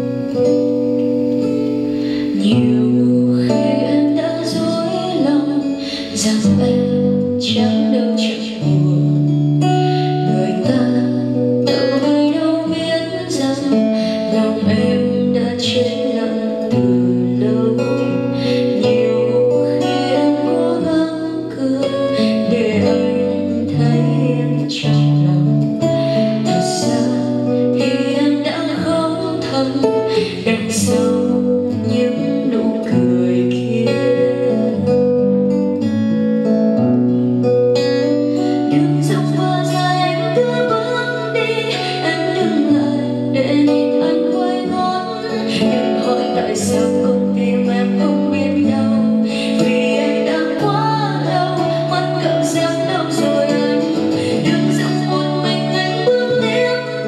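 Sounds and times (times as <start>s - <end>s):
woman singing into a microphone: 0.0s - 35.7s, 37.8s - 57.0s
strummed acoustic guitar: 0.0s - 57.0s.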